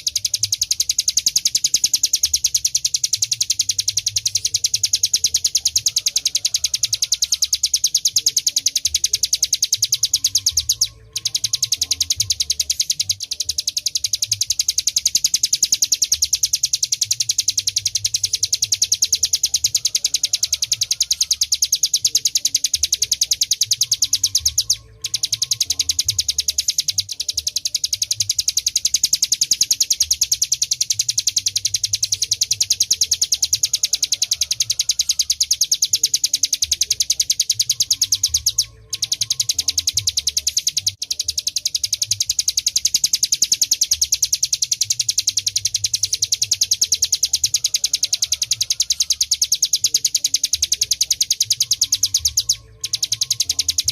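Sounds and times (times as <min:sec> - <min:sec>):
bird singing high drill-like trill: 0:00.0 - 0:53.9.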